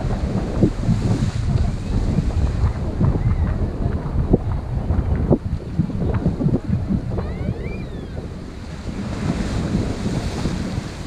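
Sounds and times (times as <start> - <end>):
waves washing against rocks: 0.0 - 11.0
wind buffeting microphone: 0.0 - 11.0.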